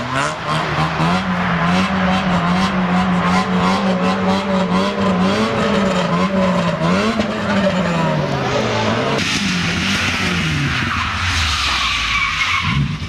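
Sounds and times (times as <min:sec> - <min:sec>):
rally car engine revving high: 0:00.0 - 0:13.0.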